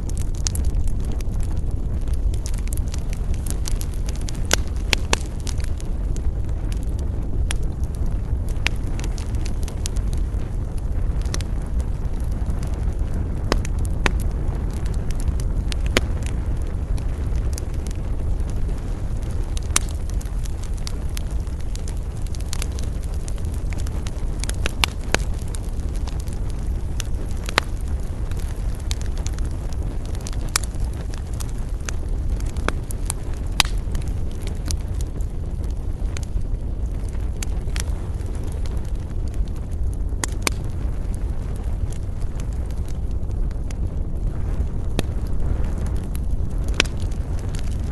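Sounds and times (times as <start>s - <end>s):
low rumble: 0.0s - 47.9s
wood fire crackling: 0.0s - 47.9s.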